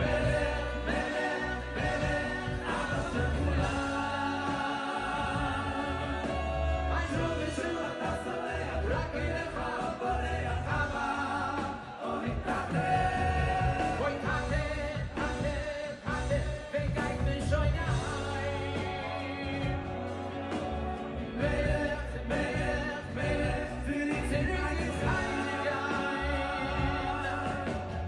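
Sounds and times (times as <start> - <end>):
bass and drum beat: 0.0 - 28.0
live band playing: 0.0 - 28.0
man singing into a microphone: 0.0 - 28.0.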